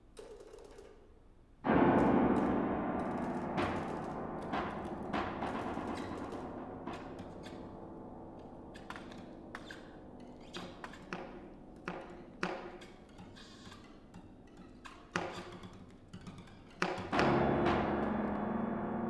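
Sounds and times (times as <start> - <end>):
sharp tapping and plucked attacks: 1.7 - 19.0.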